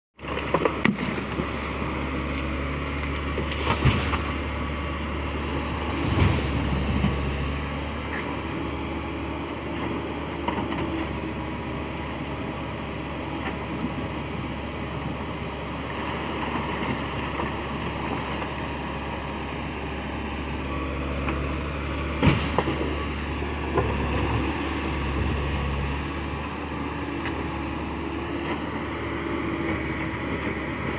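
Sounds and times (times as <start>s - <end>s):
diesel engine running: 0.2s - 30.9s.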